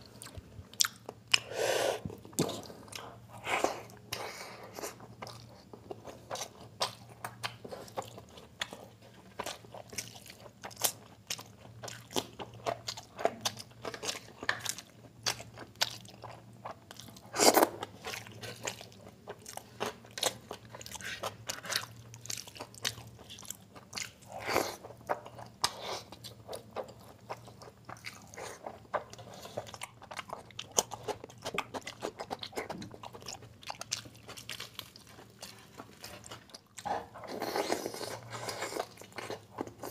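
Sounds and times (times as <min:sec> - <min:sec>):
close chewing and crunching: 0:00.0 - 0:39.9.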